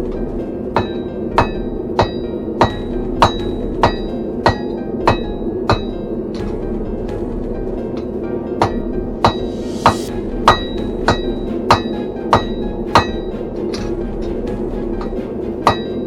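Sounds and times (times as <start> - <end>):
hammer striking steel on anvil: 0.0 - 16.0.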